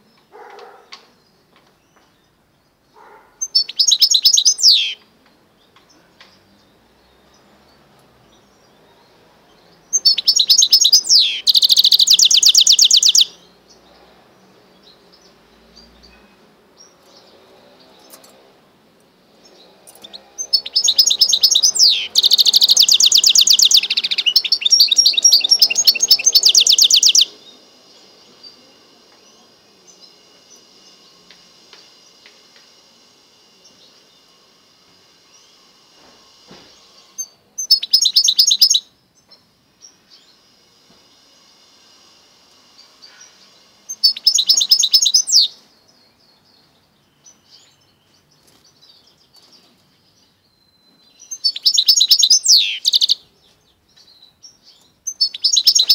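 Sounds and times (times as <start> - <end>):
bird singing rapid high trills: 0.0 - 55.9.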